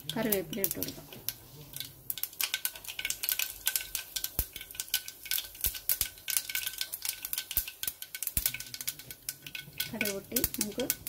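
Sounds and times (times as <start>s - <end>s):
oil sizzling: 0.0s - 11.0s
seeds popping in hot oil: 0.0s - 11.0s.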